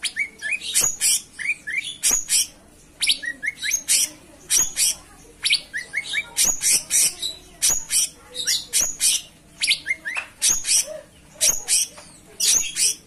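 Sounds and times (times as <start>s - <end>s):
bird singing chirps and whistles: 0.0s - 13.0s.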